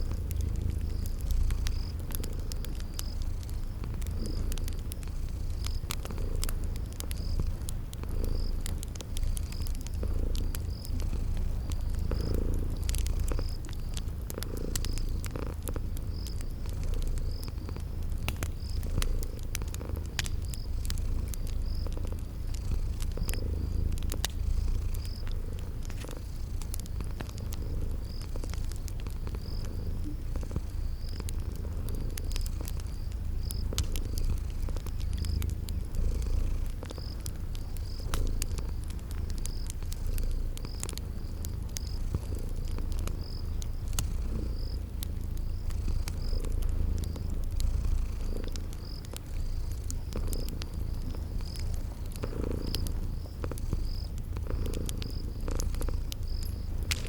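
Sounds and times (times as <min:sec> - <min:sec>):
cat purring: 0:00.0 - 0:57.0
cricket chirping: 0:00.0 - 0:57.0
wood fire crackling: 0:00.0 - 0:57.0.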